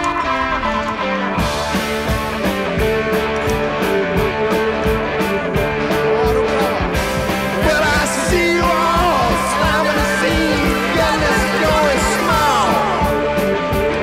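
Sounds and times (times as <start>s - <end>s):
rock music with singing: 0.0s - 14.0s.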